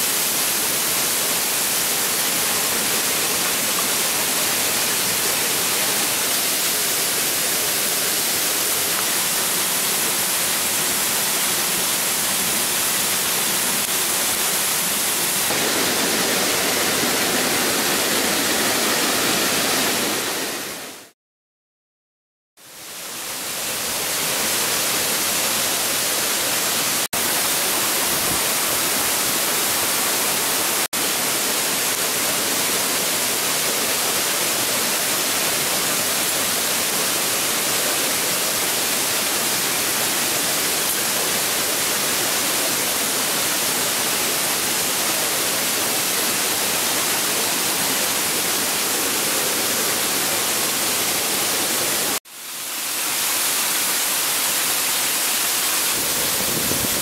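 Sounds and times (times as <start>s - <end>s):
waterfall rushing: 0.0s - 21.1s, 22.8s - 57.0s.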